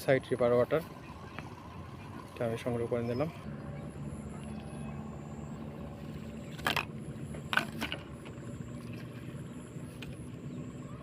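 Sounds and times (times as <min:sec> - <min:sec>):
steady low drone: 0:00.0 - 0:11.0.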